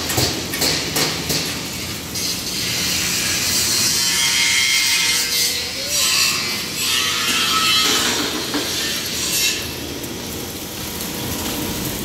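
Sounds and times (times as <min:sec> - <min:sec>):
welding arc sizzling hiss: 0:00.0 - 0:12.0.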